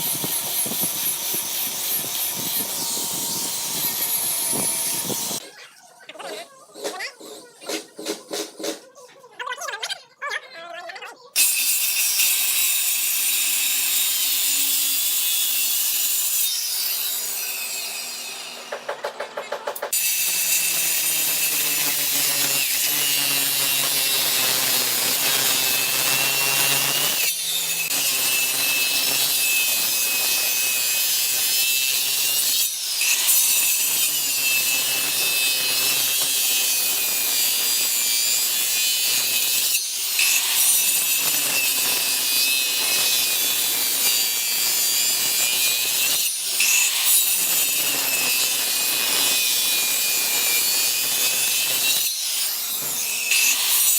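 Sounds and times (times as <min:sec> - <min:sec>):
power tool cutting wood: 0:00.0 - 0:05.6, 0:11.4 - 0:53.9.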